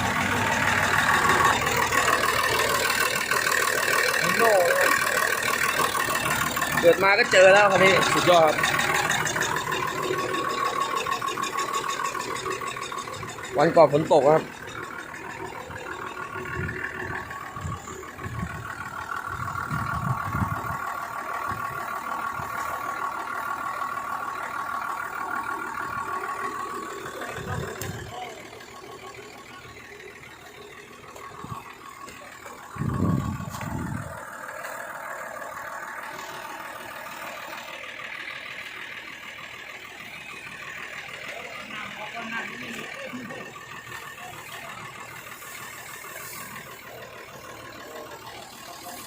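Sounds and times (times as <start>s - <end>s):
low engine burst: 0.0s - 49.0s
truck engine idling with whine: 0.0s - 49.0s.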